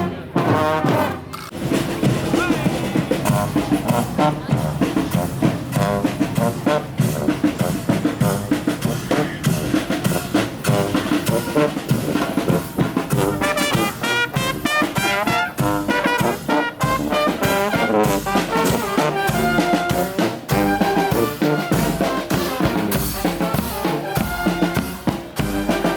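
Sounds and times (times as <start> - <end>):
brass band playing: 0.0 - 25.9.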